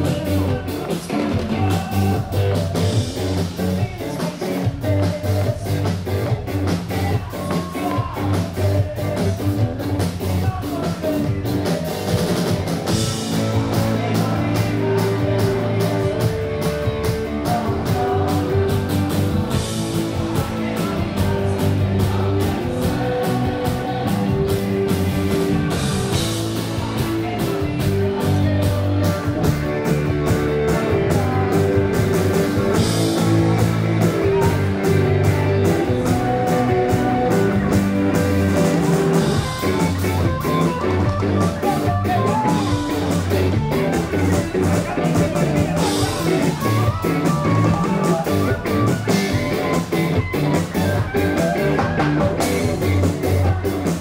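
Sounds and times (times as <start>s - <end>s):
bass guitar: 0.0s - 54.0s
drum kit steady beat: 0.0s - 54.0s
electric guitars: 0.0s - 54.0s.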